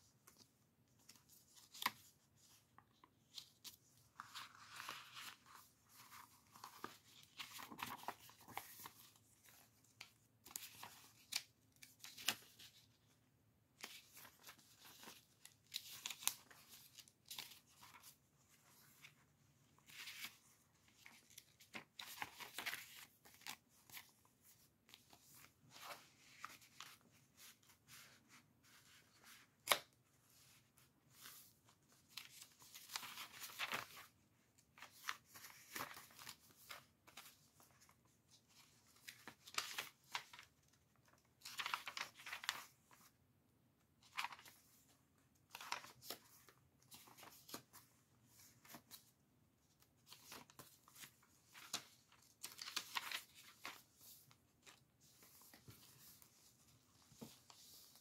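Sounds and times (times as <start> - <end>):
paper pages rustling: 0.1 - 43.1, 44.0 - 49.1, 49.7 - 58.0.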